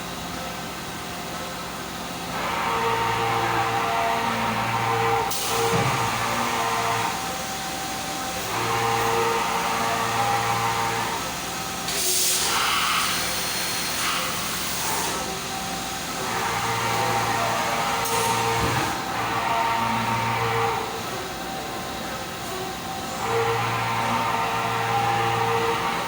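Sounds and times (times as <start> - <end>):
machine motor hum: 1.9 - 26.0.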